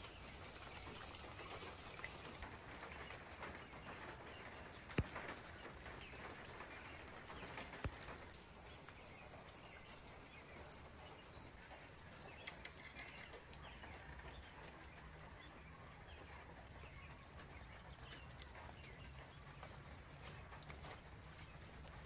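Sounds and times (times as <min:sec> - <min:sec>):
light birdsong: 0:00.0 - 0:22.0
water drips: 0:00.0 - 0:22.0.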